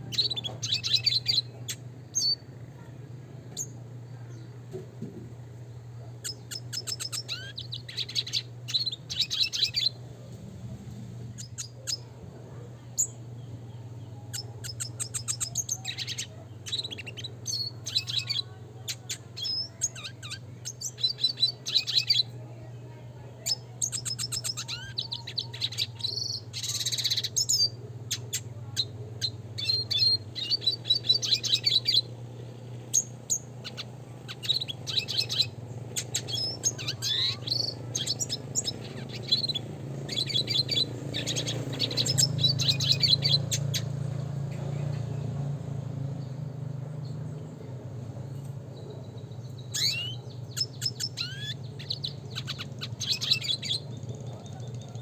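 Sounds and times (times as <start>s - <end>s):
bird chirping and trilling: 0.0s - 2.9s, 6.2s - 10.0s, 11.3s - 12.2s, 12.8s - 55.0s.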